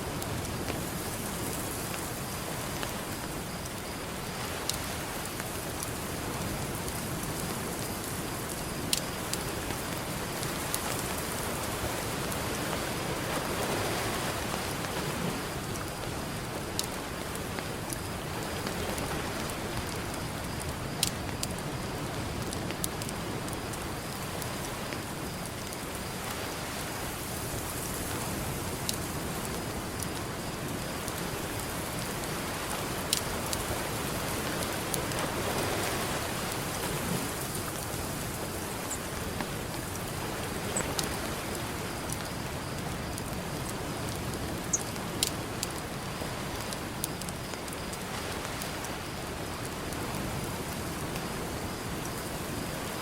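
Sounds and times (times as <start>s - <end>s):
campfire crackling: 0.0s - 53.0s
ocean surf: 0.0s - 53.0s.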